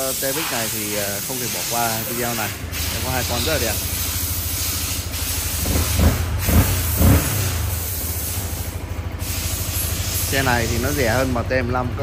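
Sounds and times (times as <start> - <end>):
motorcycle engine idling: 0.0 - 12.0
motorcycle engine revving: 0.0 - 12.0.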